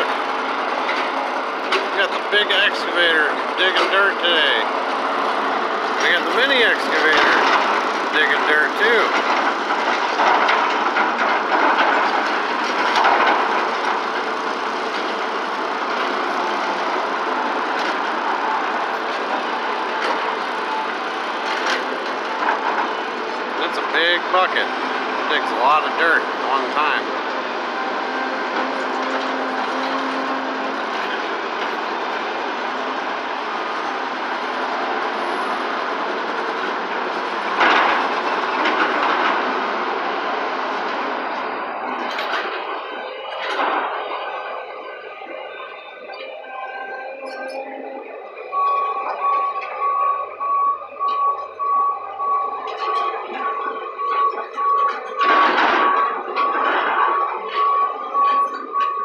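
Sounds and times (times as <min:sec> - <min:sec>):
excavator diesel engines: 0:00.0 - 0:59.0.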